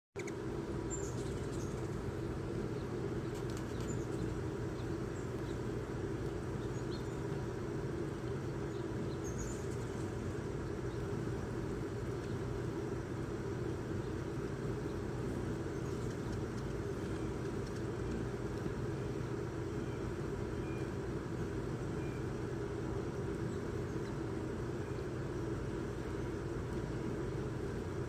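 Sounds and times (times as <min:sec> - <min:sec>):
low outdoor rumble: 0:00.2 - 0:28.0
small birds chirping: 0:00.2 - 0:28.0.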